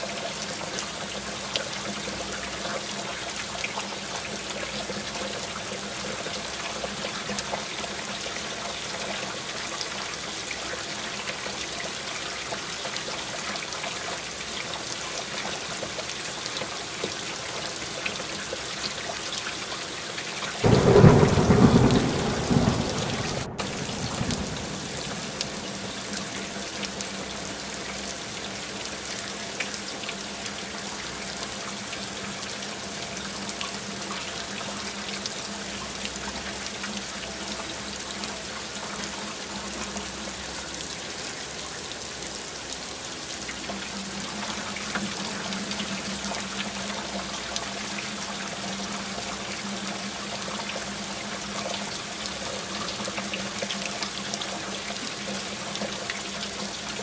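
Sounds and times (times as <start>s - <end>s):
steady rain: 0.0s - 57.0s
water running and trickling: 0.0s - 57.0s
water drips: 0.1s - 57.0s.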